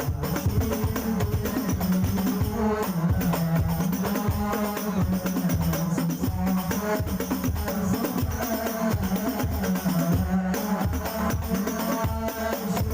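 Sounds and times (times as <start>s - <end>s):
frame drums and hand drums: 0.0s - 12.9s.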